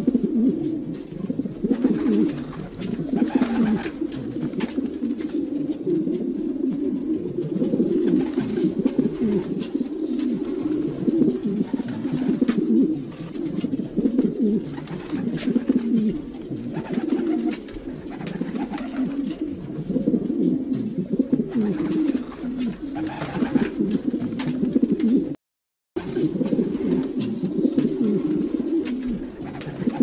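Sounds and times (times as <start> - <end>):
pigeons cooing: 0.0 - 25.4, 26.0 - 30.0.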